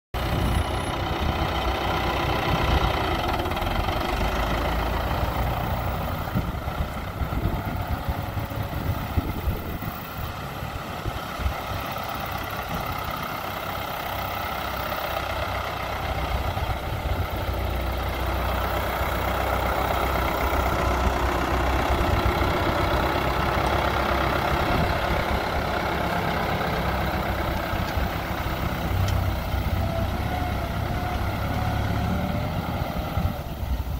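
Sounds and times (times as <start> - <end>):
tractor diesel engine rumbling: 0.1 - 33.9.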